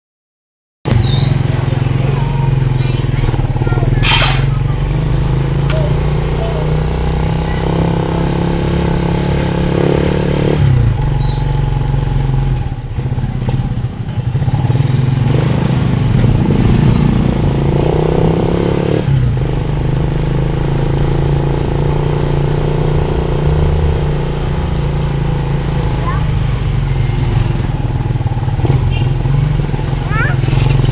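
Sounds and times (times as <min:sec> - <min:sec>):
motorcycle engine running: 0:00.9 - 0:30.9.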